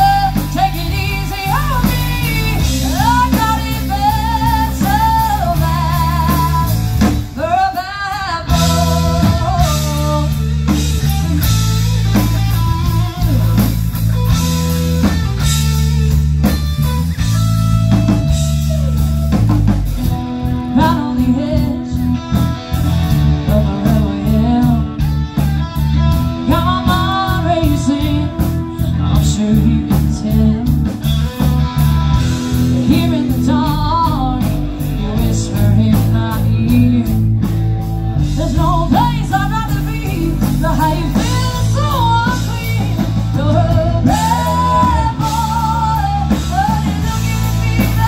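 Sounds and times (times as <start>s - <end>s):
blues-rock band playing: 0.0s - 48.0s
electric guitar lead line: 0.0s - 48.0s.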